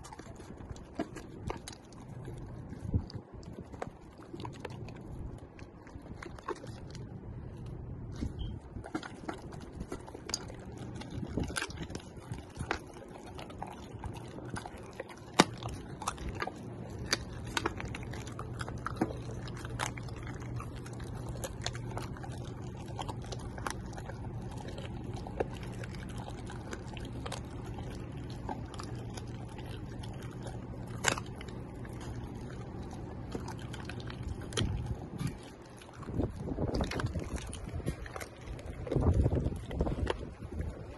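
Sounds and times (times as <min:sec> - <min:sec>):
low hum: 0:00.0 - 0:40.9
puppy chewing and crunching: 0:00.0 - 0:40.9.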